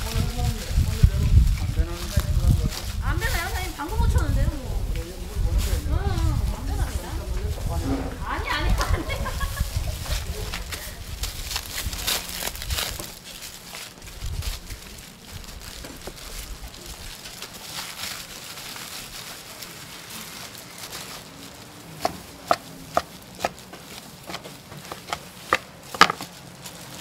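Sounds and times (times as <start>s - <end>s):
faint rustling: 0.0s - 27.0s.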